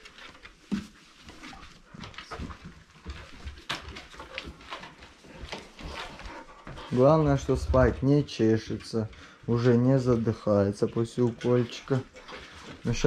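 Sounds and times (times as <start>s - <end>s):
dogs snuffling: 0.0s - 13.0s
paws thumping on wooden floor: 0.0s - 13.0s.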